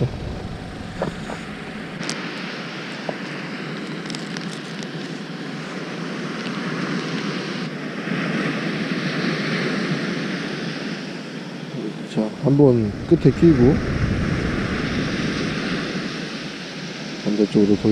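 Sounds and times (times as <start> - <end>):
wind on microphone: 0.0 - 3.2, 4.0 - 17.9
waves breaking on beach: 0.0 - 17.9.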